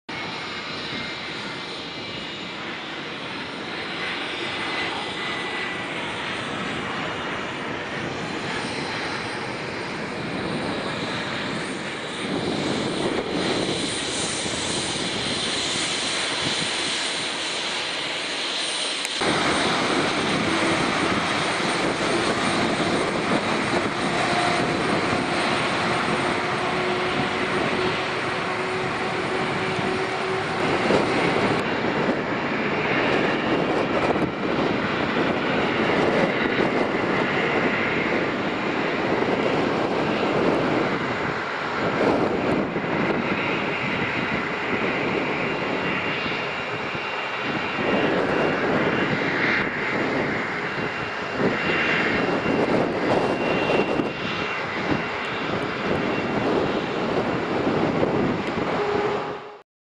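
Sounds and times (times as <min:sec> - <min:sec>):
jet engines rushing: 0:00.1 - 0:59.6.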